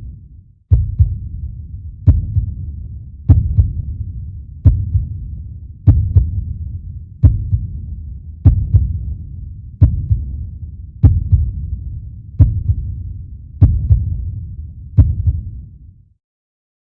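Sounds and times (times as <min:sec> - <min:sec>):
deep heartbeat-like thuds: 0:00.0 - 0:16.0.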